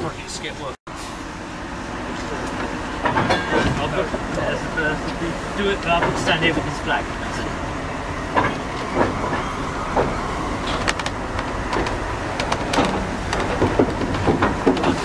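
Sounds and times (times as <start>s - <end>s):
train wagon rumbling: 0.0s - 15.0s
wheels clicking on rails: 2.2s - 15.0s.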